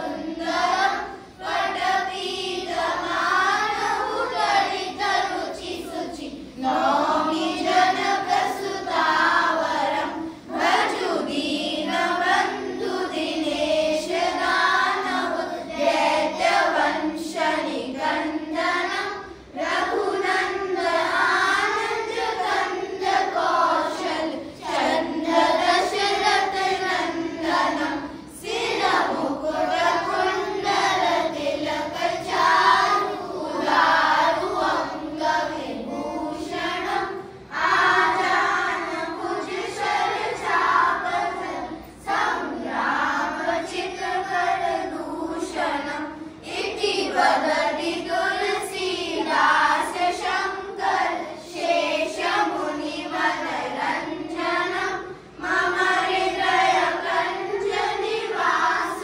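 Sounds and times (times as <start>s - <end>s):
children singing a hymn: 0.0s - 59.0s.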